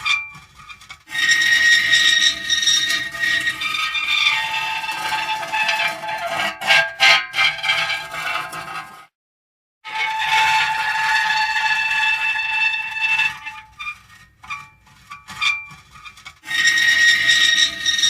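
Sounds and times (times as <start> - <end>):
metal creaking and squeaking: 0.0 - 9.0, 9.9 - 18.0.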